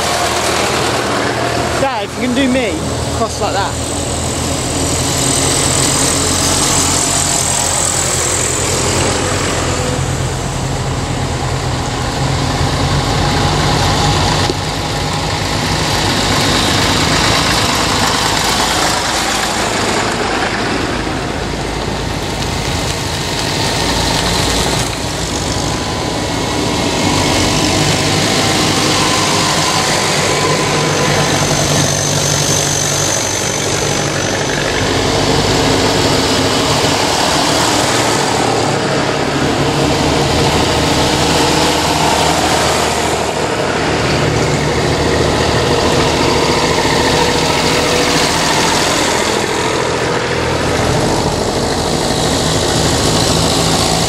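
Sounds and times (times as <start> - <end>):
small car passing: 0.0 - 54.0
tractor engines passing: 0.0 - 54.0.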